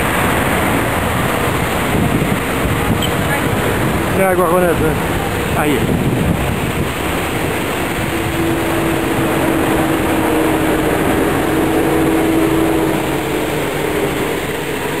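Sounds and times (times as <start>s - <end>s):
bus engine droning: 0.0s - 15.0s
city street traffic: 0.0s - 15.0s.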